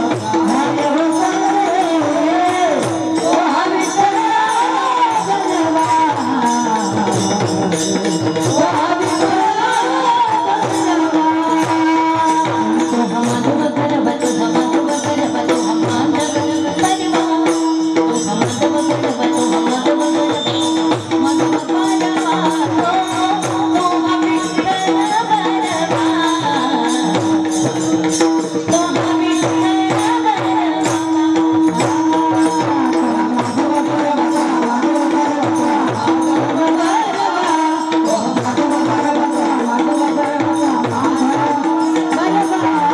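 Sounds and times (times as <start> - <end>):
jingling percussion: 0.0 - 42.9.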